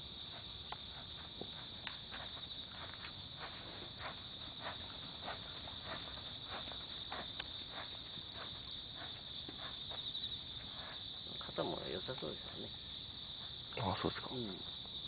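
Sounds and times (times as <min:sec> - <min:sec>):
horse hoofbeats on dirt: 0:00.0 - 0:12.7
insects chirring: 0:00.0 - 0:15.0.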